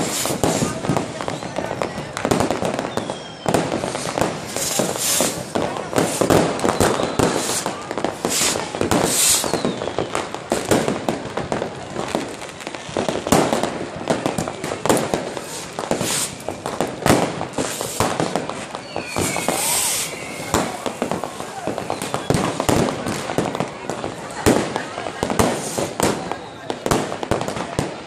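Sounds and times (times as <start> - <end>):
falling firework whistle: 0.0 - 10.6, 14.2 - 23.7, 24.4 - 27.9
fireworks bangs and crackling: 0.0 - 28.0.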